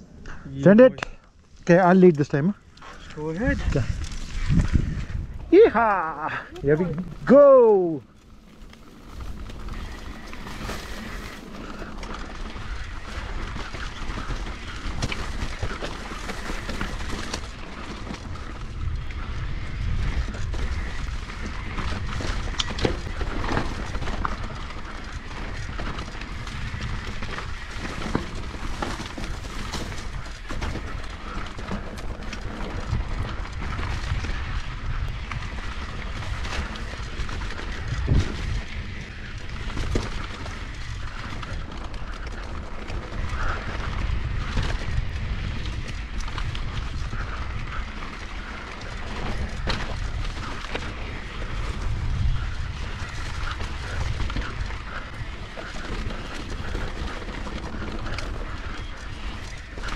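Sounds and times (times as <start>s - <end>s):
bike rattling over bumps: 1.1s - 59.9s
wind buffeting microphone: 2.5s - 59.9s.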